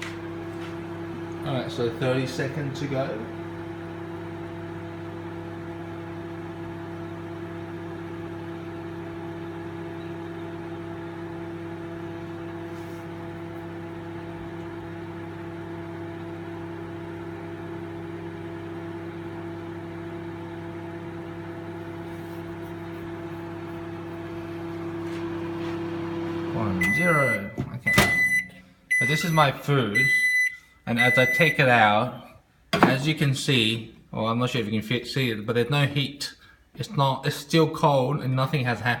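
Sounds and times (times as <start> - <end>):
microwave oven humming: 0.0 - 31.8.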